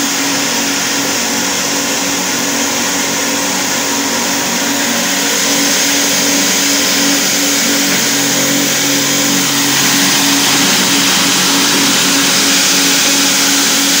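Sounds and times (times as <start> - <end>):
grinder hissing and humming: 0.0 - 14.0
low hum: 0.0 - 14.0.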